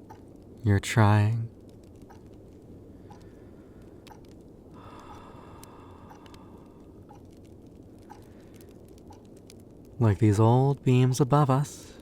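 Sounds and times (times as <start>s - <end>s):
fireplace crackling: 0.0s - 12.0s.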